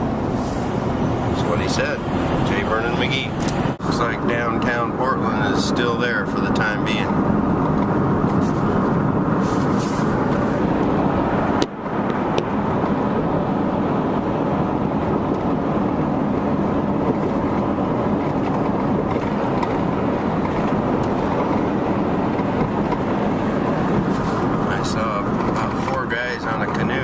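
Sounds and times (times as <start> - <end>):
road and engine noise in cabin: 0.0 - 27.0.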